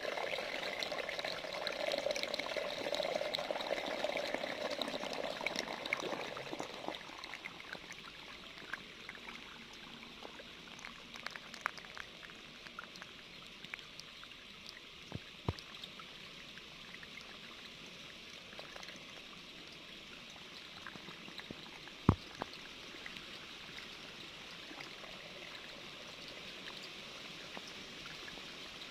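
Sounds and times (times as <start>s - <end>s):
aquarium water bubbling: 0.0s - 28.9s.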